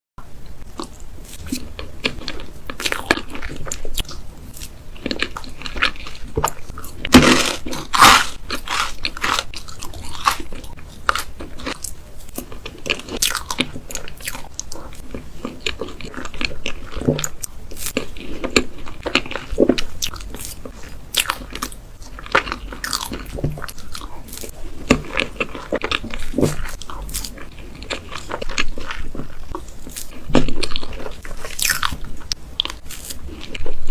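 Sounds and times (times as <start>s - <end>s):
person chewing cake: 0.4s - 33.9s.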